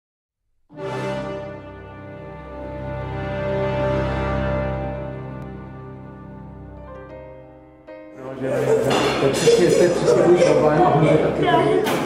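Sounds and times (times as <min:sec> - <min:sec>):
sustained music chord: 0:00.7 - 0:11.8.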